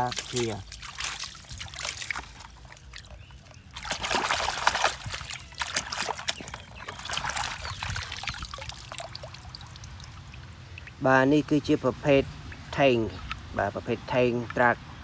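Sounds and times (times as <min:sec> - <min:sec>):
water splashing: 0:00.0 - 0:13.7
water sloshing and trickling: 0:00.0 - 0:14.7.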